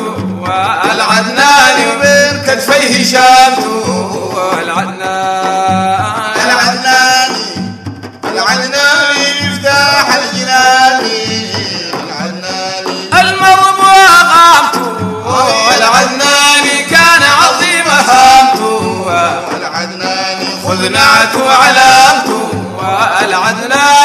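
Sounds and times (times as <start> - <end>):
drum beat: 0.0 - 24.0
voices singing: 0.0 - 24.0.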